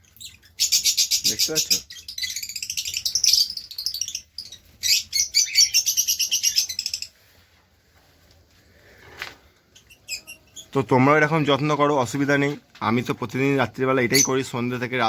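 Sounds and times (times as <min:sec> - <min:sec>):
lovebirds chattering: 0:00.0 - 0:07.4, 0:09.7 - 0:15.0.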